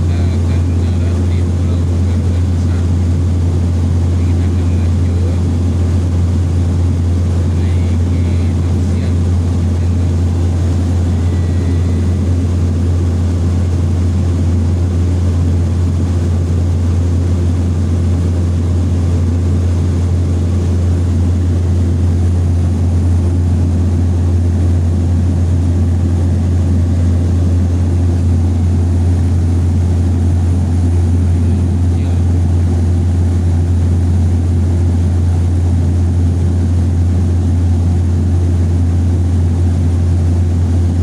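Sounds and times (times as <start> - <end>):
propeller aircraft cabin drone: 0.0 - 41.0.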